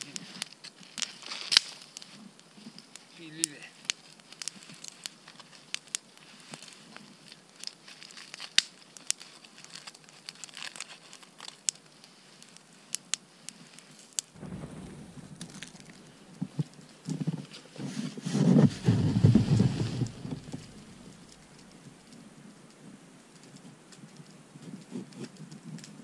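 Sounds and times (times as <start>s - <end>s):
campfire crackling and snapping: 0.0s - 26.0s
low rustling and crunching: 0.0s - 26.0s.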